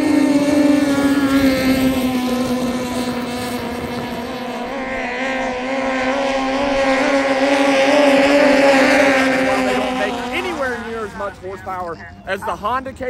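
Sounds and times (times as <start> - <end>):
boat engines running at high revs: 0.0 - 13.0.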